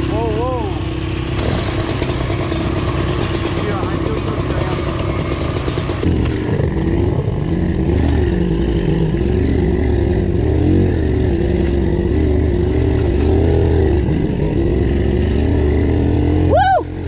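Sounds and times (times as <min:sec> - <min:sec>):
motorbike engine running: 0:00.0 - 0:17.0.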